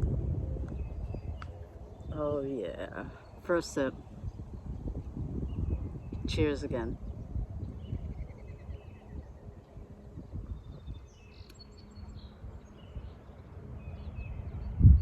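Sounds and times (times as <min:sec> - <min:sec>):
birds chirping: 0:00.0 - 0:15.0
low rumble: 0:00.0 - 0:15.0.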